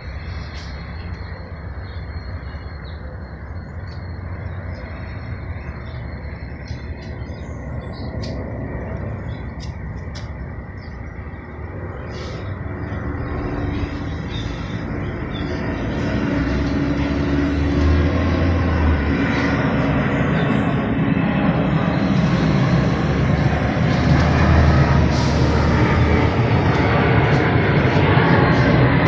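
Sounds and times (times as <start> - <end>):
engine-like rumble: 0.0 - 29.0.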